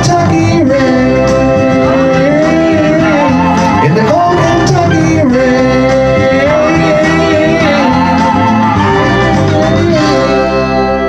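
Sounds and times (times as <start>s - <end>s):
instrumental country music: 0.0s - 11.0s.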